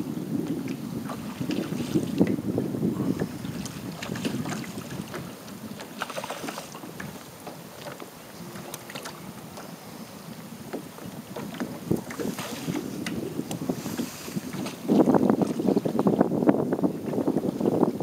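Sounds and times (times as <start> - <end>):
small waves lapping at hull: 0.0 - 18.0
wind buffeting microphone: 0.0 - 18.0
light water splashes: 0.4 - 2.4, 3.0 - 15.9.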